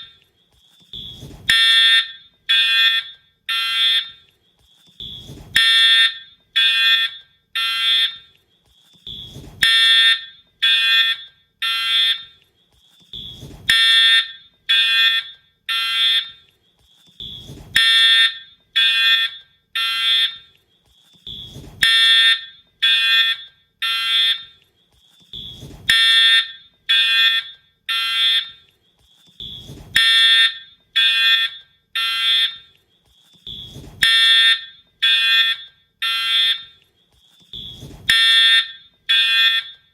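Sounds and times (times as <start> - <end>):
fire alarm horn blasts: 0.9 - 4.3, 5.0 - 8.4, 9.0 - 12.4, 13.1 - 16.5, 17.2 - 20.6, 21.2 - 24.6, 25.3 - 28.7, 29.4 - 32.8, 33.4 - 39.9.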